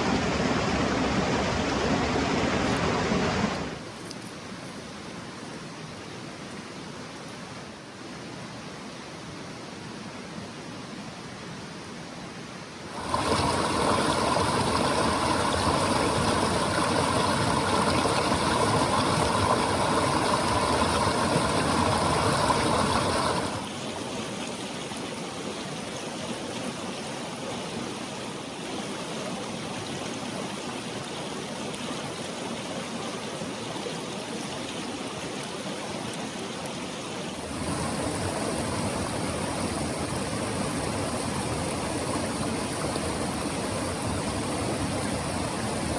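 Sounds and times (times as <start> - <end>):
stream rushing over rocks: 0.0 - 11.3, 12.7 - 45.9.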